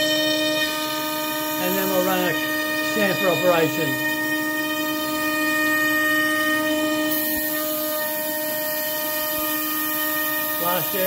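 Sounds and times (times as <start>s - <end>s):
router spindle whine: 0.0s - 11.0s
hiss of cutting wood: 0.9s - 4.0s, 5.0s - 11.0s.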